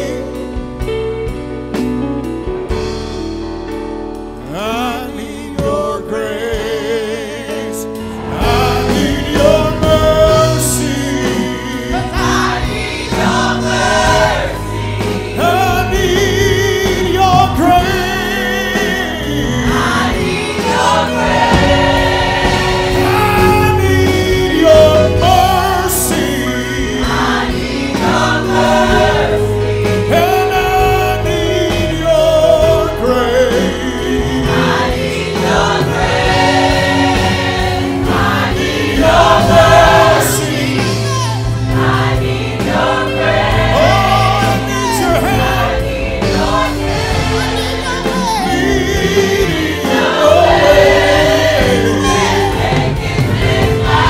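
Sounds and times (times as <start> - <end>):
gospel choir singing: 0.0 - 1.9, 4.4 - 54.0.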